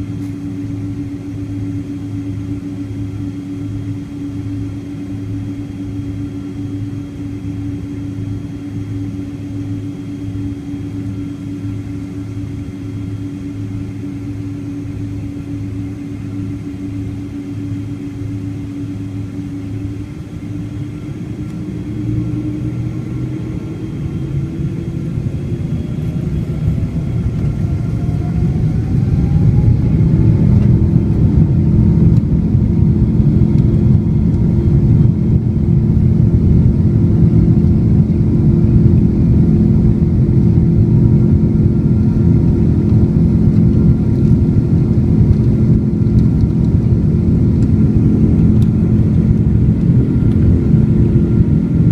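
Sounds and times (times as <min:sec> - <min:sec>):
jet engines spooling up: 0:00.0 - 0:51.9.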